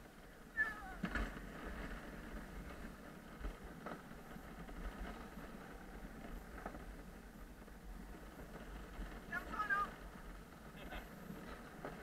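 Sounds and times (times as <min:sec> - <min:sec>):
luge cart wheels rumbling on concrete: 0:00.0 - 0:12.0.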